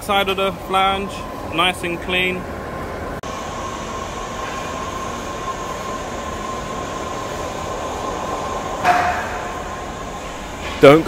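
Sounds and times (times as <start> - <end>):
steady mechanical hum: 0.0 - 11.0
thin steady whine: 0.0 - 11.0.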